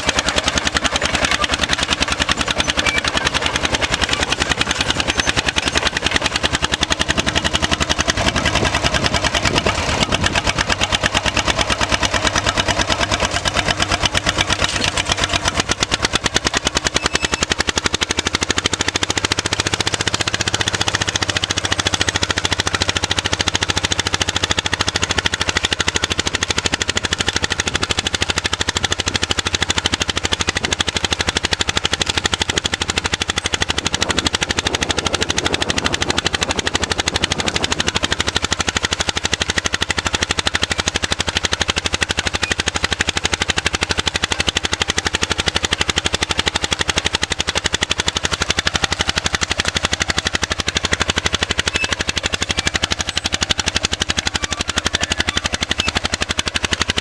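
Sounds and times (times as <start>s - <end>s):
crawler dozer engine popping: 0.0s - 57.0s.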